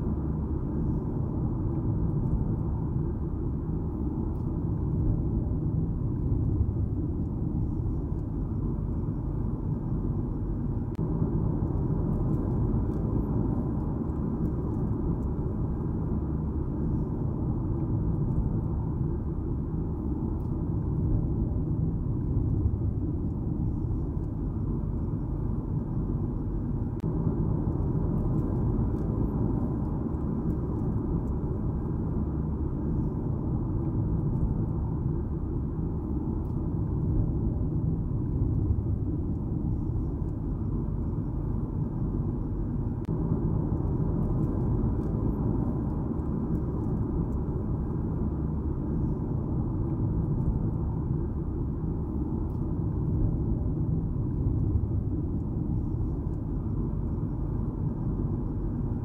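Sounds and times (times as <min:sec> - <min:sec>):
car road noise rumble: 0:00.0 - 0:59.0.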